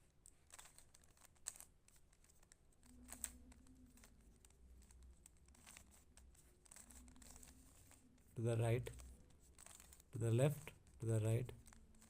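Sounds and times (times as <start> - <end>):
low room hum: 0.0 - 12.0
plastic puzzle cube clicks: 0.0 - 12.0.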